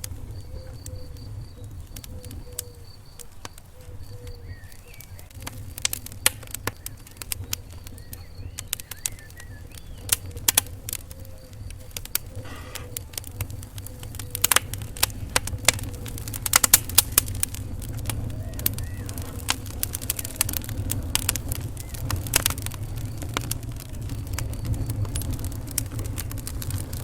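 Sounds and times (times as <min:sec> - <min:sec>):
low rumble of flames: 0:00.0 - 0:27.0
sharp pops of fire: 0:00.0 - 0:27.0
wood fire crackling: 0:00.0 - 0:27.0.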